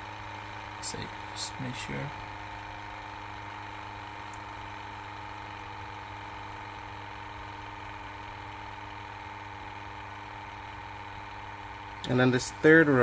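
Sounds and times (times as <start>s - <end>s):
small pump humming with whine: 0.0s - 13.0s.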